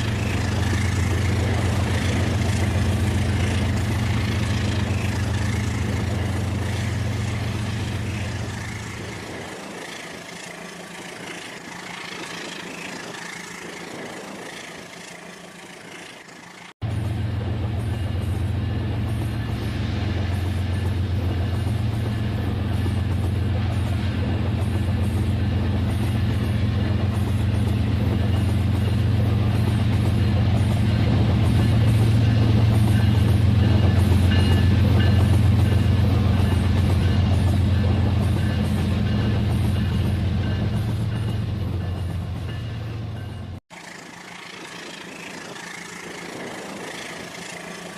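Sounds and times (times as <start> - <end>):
model train humming and rumbling: 0.0 - 47.9.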